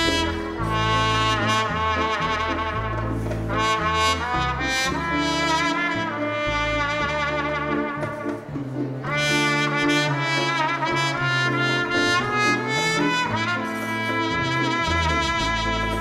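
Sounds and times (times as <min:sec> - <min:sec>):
dance band playing bolero: 0:00.0 - 0:16.0
trumpet melody: 0:00.0 - 0:16.0.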